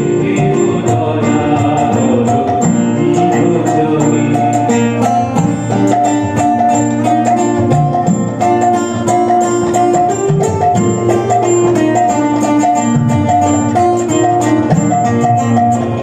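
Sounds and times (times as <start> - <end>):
electronic keyboard melody: 0.0 - 16.0
strummed acoustic guitar: 0.0 - 16.0
tabla strokes: 0.0 - 16.0.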